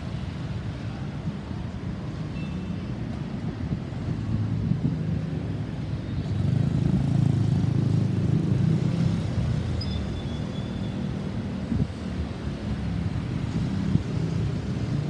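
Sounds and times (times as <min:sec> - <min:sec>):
vehicle engine and traffic rumble: 0:00.0 - 0:15.0.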